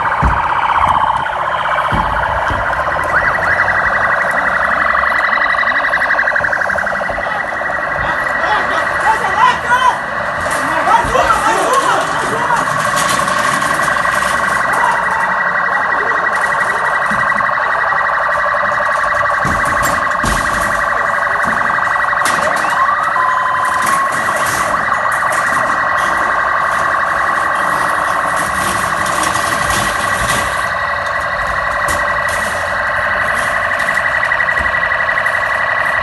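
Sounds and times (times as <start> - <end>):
police siren warbling: 0.0 - 36.0.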